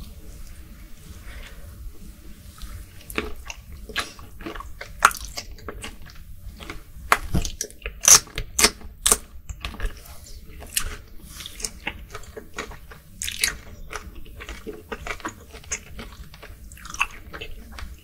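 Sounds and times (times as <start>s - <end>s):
chewing shrimp: 2.5s - 18.0s.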